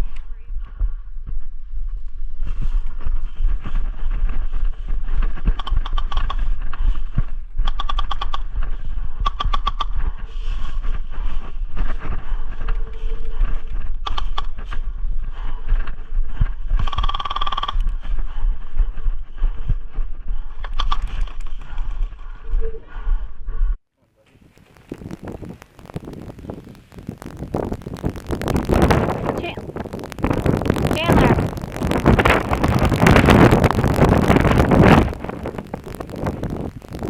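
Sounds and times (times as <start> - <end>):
wind buffeting the microphone: 0.0 - 37.0.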